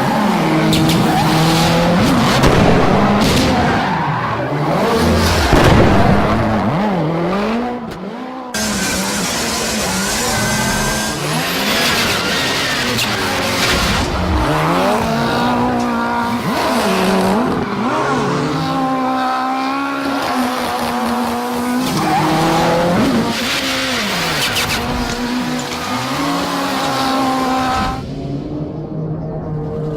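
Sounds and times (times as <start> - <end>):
tyre and road noise: 0.0 - 28.8
rally car engine revving: 0.0 - 29.9.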